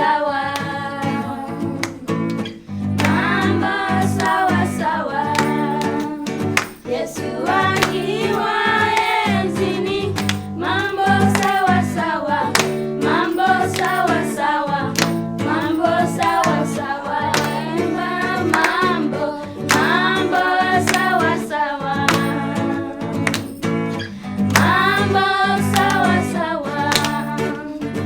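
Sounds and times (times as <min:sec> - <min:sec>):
person singing: 0:00.0 - 0:02.2, 0:03.0 - 0:23.4, 0:24.5 - 0:28.0.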